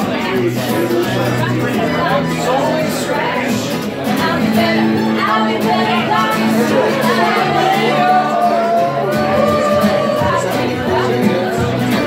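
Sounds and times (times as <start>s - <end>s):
strummed acoustic guitar: 0.0s - 12.0s
woman singing: 1.7s - 12.0s.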